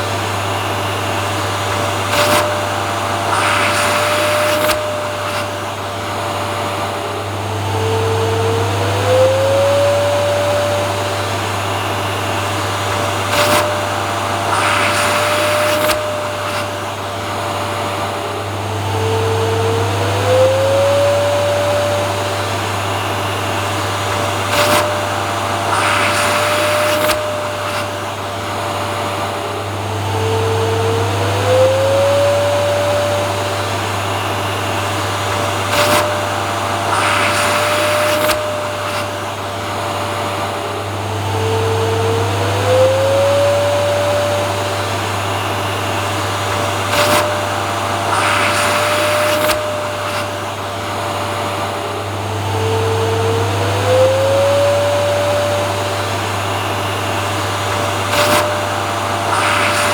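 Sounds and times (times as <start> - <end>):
vacuum cleaner motor running: 0.0 - 59.9.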